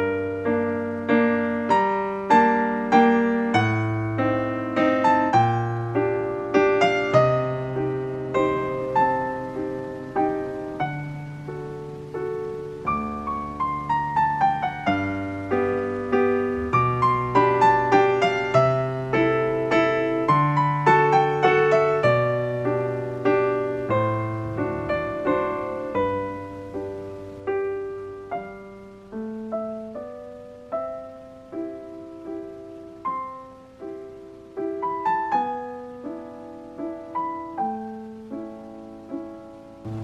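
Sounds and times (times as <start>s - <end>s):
gentle solo piano piece: 0.0s - 40.0s.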